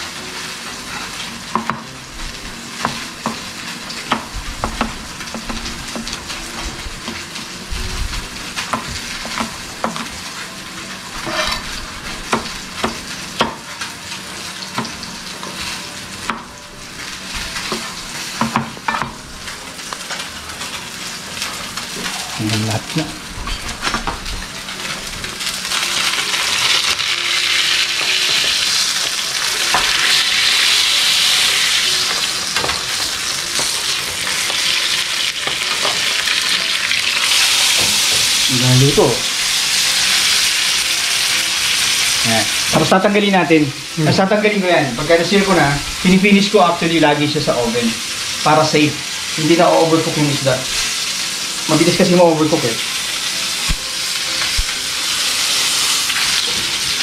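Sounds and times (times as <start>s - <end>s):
fish sizzling in a frying pan: 0.0s - 57.0s.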